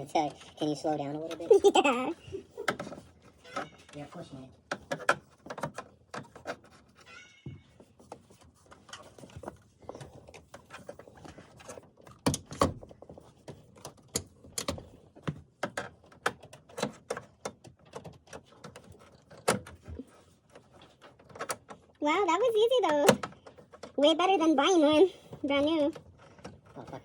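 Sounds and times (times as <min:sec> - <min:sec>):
plastic dash parts knocking: 0:00.1 - 0:21.9.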